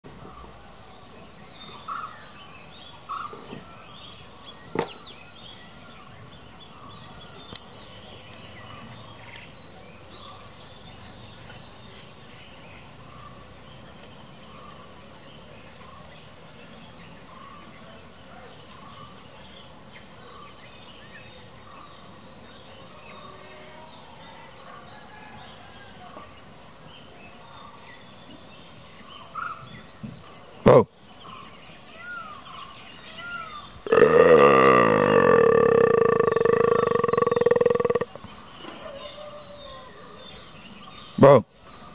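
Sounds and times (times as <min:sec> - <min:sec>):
insects droning: 0:00.0 - 0:41.9
faint chirps: 0:01.1 - 0:41.9.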